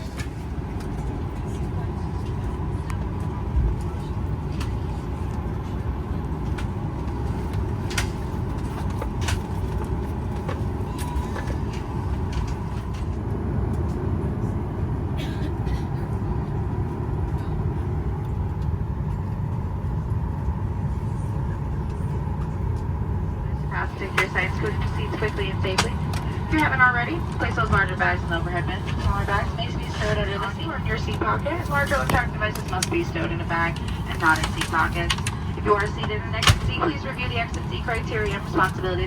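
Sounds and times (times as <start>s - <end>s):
aircraft cabin ventilation rumble: 0.0s - 39.0s
faint steady whine: 6.1s - 39.0s.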